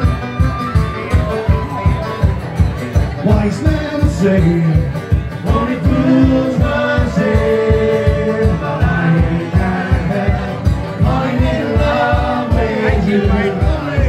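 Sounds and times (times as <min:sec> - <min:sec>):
banjo: 0:00.0 - 0:14.0
guitar: 0:00.0 - 0:14.0
steady beat: 0:00.0 - 0:14.0.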